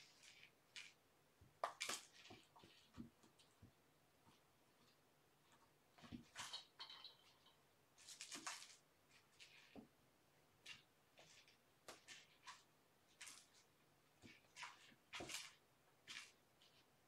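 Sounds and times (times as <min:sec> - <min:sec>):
kittens scratching on carpet: 0:00.0 - 0:01.0, 0:01.8 - 0:06.6, 0:08.0 - 0:09.9, 0:10.6 - 0:17.0.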